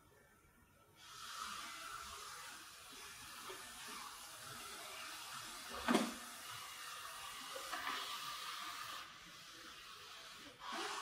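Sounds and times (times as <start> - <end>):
robot vacuum whirring hiss: 1.0 - 11.0.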